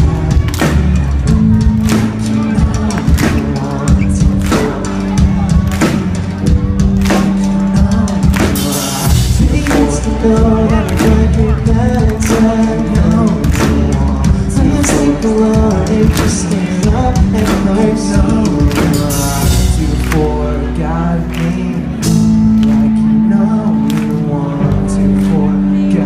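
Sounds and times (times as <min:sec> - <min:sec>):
person singing: 0:00.0 - 0:26.0
pop-punk band playing live: 0:00.0 - 0:26.0.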